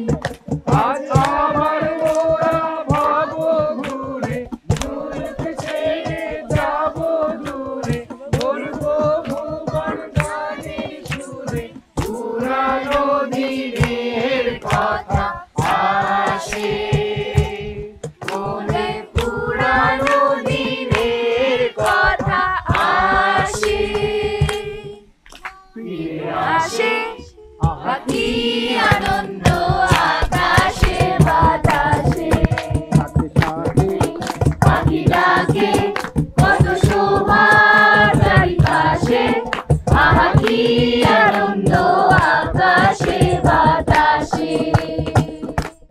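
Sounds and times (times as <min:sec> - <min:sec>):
group singing in chorus: 0:00.0 - 0:45.9
rhythmic hand clapping: 0:00.0 - 0:45.9.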